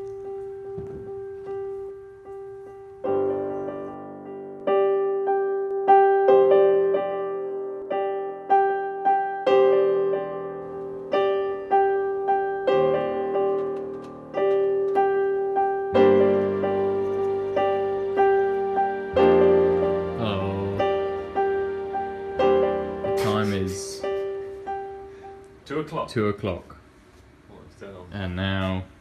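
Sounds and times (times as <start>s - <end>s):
piano music: 0.0s - 26.6s.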